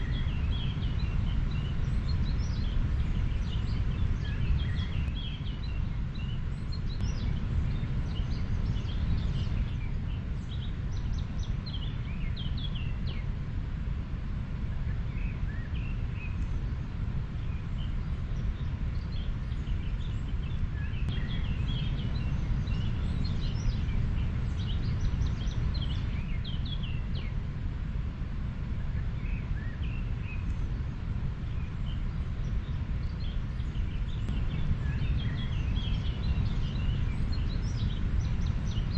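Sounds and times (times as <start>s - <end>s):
small birds chirping: 0.0s - 13.6s, 14.6s - 28.0s, 28.6s - 38.9s.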